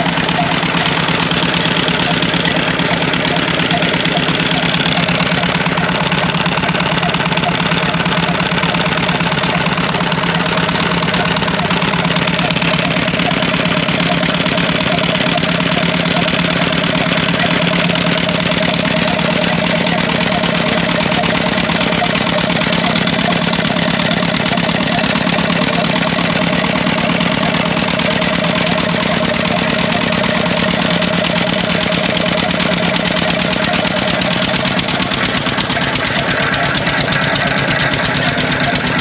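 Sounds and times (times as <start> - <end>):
diesel engine knocking steadily: 0.0 - 39.0.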